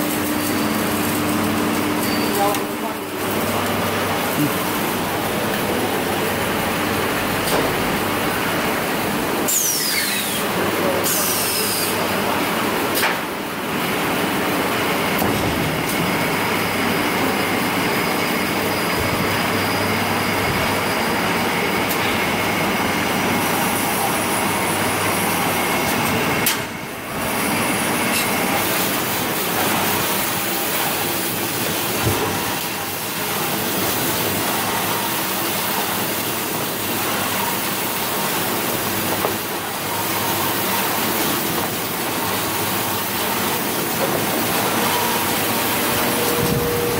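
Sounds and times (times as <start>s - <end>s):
band saw machine running: 0.0s - 46.9s.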